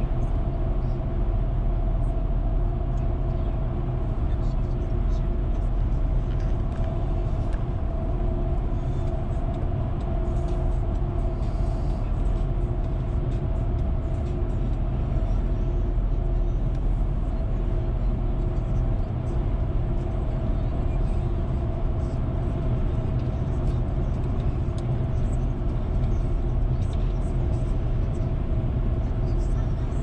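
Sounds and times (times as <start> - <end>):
car road noise rumble: 0.0 - 30.0
faint steady drone: 0.0 - 30.0.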